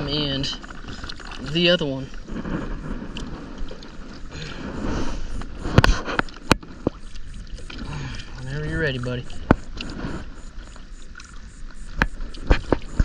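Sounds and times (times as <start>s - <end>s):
kayak handling rustle: 0.0s - 13.0s
water wash: 0.0s - 13.0s.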